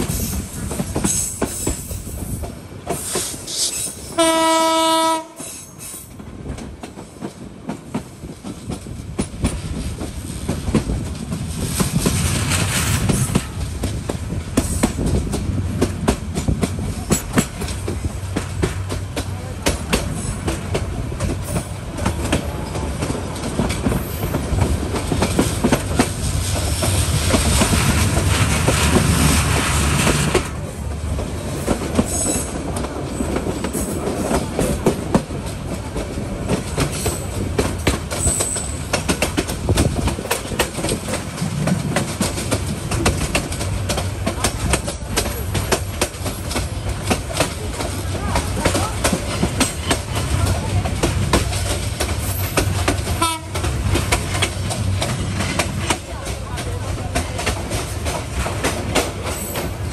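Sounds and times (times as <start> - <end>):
train wheels rumbling on rail: 0.0 - 59.9
clicking over rail joints: 5.3 - 59.9.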